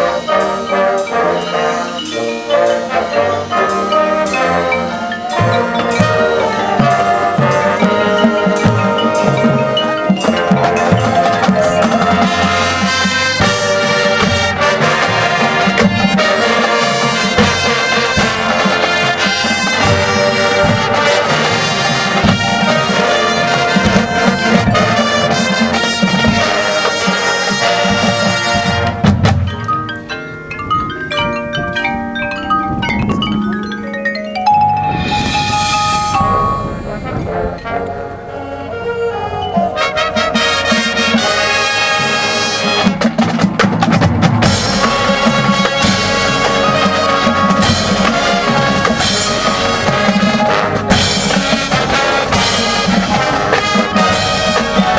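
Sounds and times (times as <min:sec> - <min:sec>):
mallet percussion notes: 0:00.0 - 0:54.9
marching band playing: 0:00.0 - 0:54.9.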